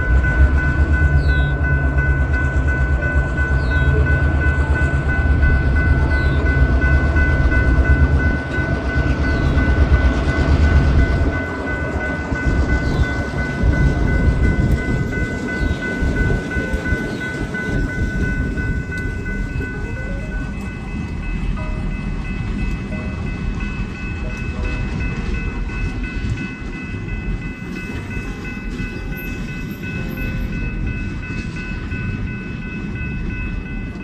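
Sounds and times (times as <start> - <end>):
diesel locomotive engines rumbling: 0.0 - 34.0.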